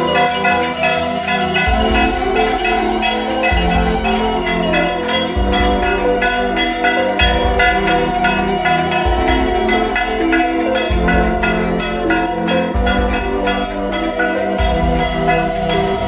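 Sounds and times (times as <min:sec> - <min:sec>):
bell-like music over a beat: 0:00.0 - 0:16.0.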